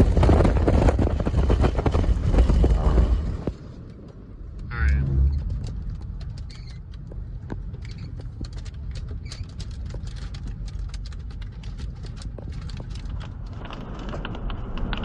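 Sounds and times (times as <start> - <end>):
car and wind rumble: 0.0 - 15.0
precipitation pattering on vehicle: 0.0 - 15.0.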